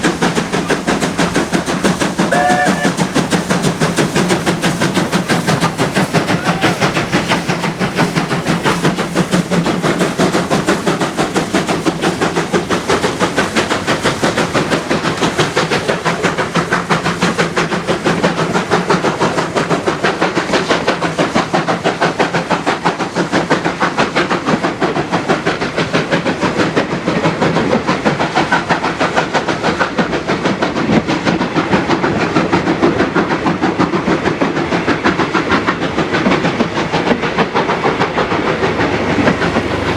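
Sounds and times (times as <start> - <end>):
steam hissing: 0.0 - 39.9
steam locomotive exhaust beating: 0.0 - 39.9.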